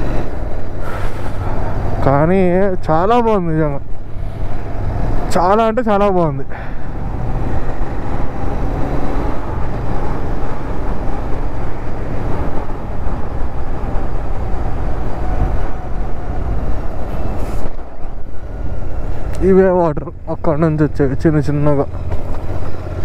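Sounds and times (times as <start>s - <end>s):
dense rushing noise: 0.0s - 23.0s.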